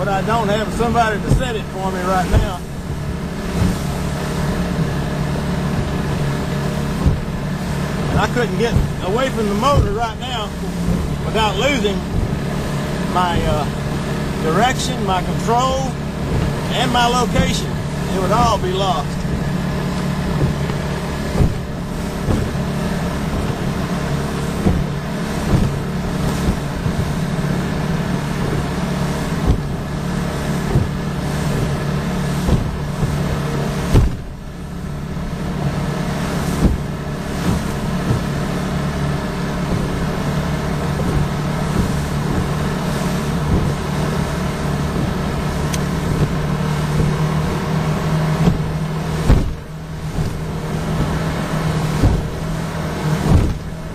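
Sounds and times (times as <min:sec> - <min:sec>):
boat hull knocking on waves: 0:00.0 - 0:53.9
outboard motor running: 0:00.0 - 0:53.9.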